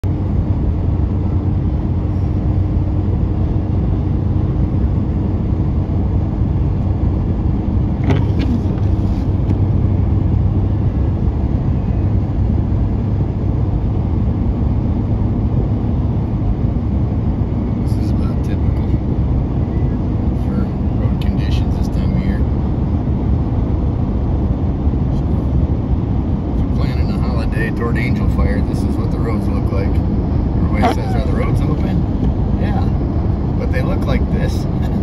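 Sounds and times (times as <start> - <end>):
pickup engine and tyres rumble: 0.0 - 35.0.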